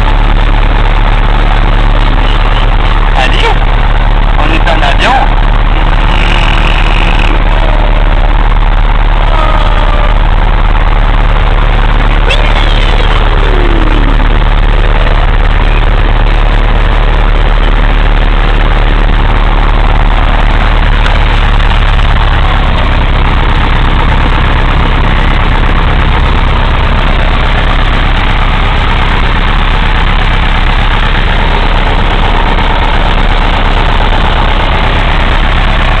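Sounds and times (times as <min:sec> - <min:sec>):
small plane engine and propeller: 0:00.0 - 0:36.0.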